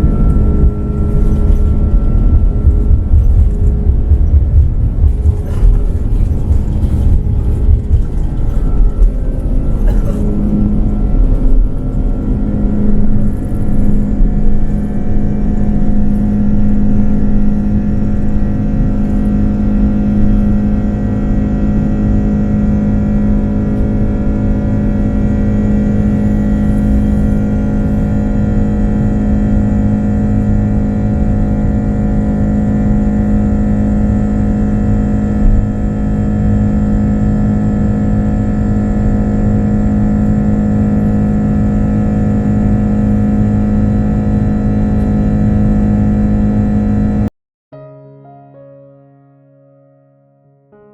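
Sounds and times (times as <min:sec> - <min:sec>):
jet engines rumbling at takeoff: 0:00.0 - 0:45.1
steady hum: 0:00.0 - 0:47.3.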